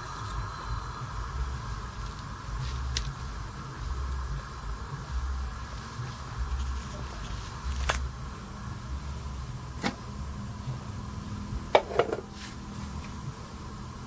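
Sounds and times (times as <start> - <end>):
gas burner hissing: 0.0 - 14.0.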